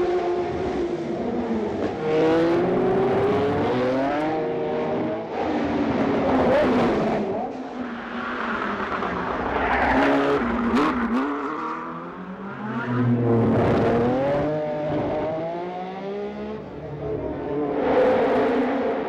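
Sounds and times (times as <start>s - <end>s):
racing car accelerating: 0.0s - 19.0s
racing cars passing: 0.0s - 19.0s.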